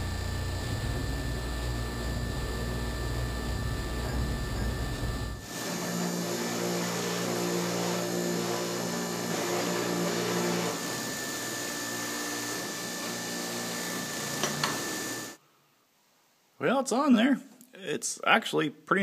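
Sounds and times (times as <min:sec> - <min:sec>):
hydraulic press running: 0:00.0 - 0:15.4.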